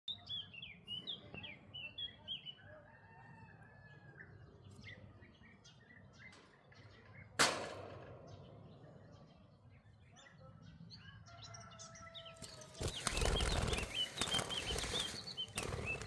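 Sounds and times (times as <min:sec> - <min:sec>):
birds chirping: 0:00.1 - 0:07.4, 0:08.0 - 0:16.0.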